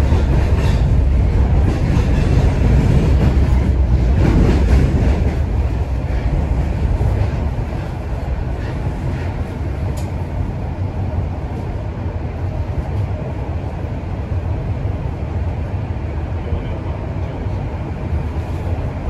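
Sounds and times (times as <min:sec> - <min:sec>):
subway train wheels rumbling: 0:00.0 - 0:19.0.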